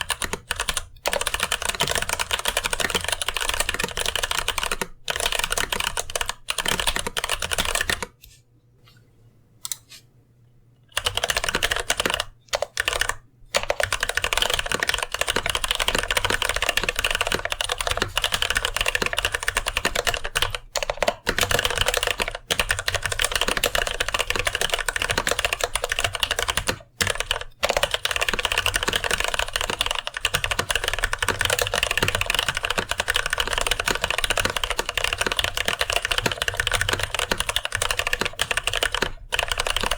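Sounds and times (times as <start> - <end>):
typing on mechanical keyboard: 0.0 - 8.2, 10.9 - 39.9.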